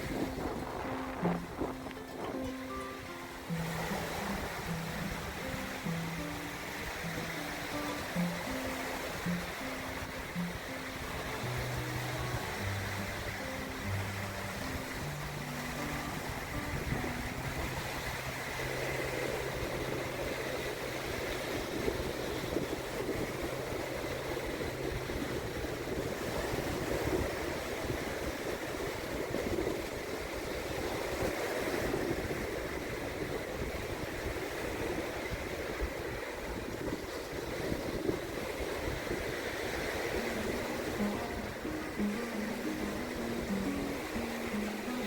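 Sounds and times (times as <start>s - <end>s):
waves washing onto sandy beach: 0.0s - 45.0s
wind: 0.0s - 45.0s.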